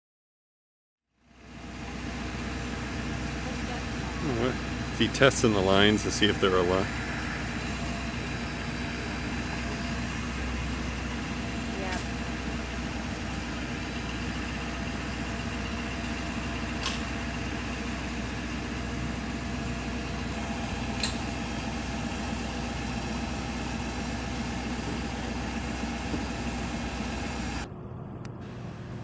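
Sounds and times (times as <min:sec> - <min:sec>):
heavy truck engines idling: 0:01.2 - 0:29.0.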